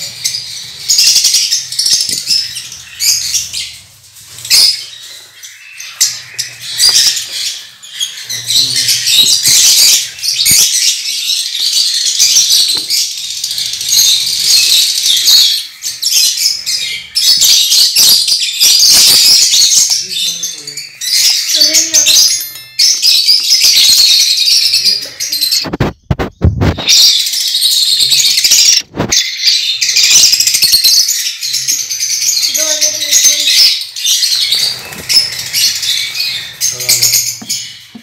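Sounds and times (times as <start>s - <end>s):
small birds chattering and chirping: 0.0s - 38.0s.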